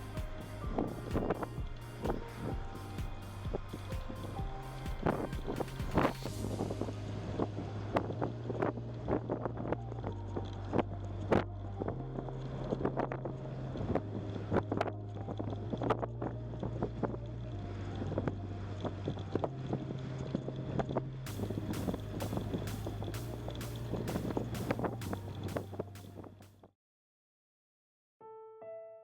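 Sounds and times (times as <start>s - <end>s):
low bass notes: 0.0s - 26.7s.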